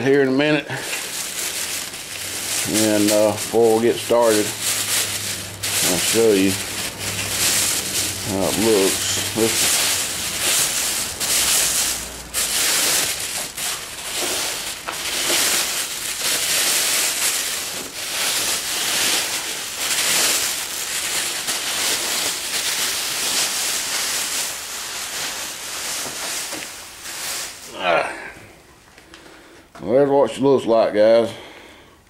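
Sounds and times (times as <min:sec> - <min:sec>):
plastic wrapping crinkling: 0:00.0 - 0:28.0.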